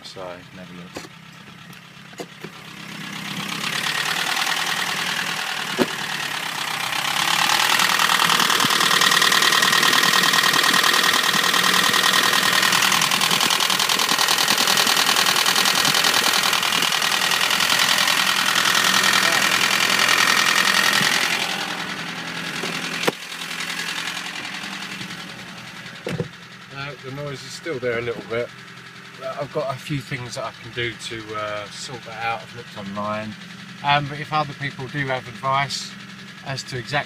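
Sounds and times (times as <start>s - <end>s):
car engine idling with valve tapping: 0.0s - 37.0s.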